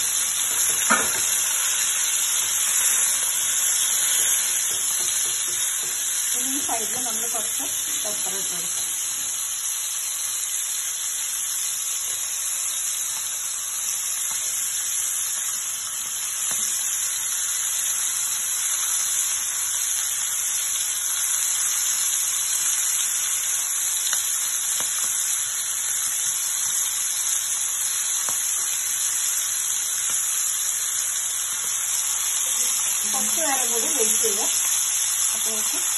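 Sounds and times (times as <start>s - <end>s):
steaks sizzling in a pan: 0.0s - 35.9s.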